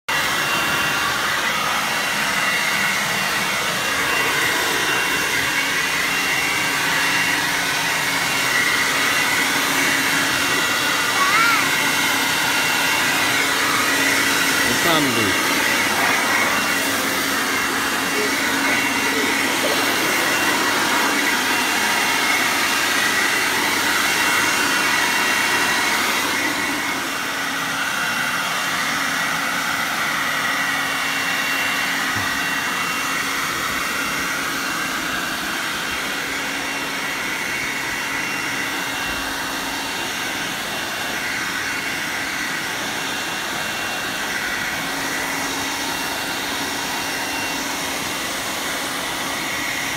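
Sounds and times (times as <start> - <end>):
leaf vacuum whirring: 0.1 - 49.9.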